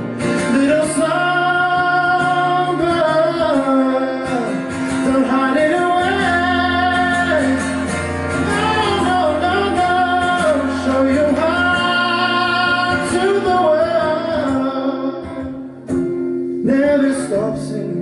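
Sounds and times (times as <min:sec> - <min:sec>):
person singing: 0:00.0 - 0:15.8, 0:16.5 - 0:18.0
acoustic guitar: 0:00.0 - 0:18.0.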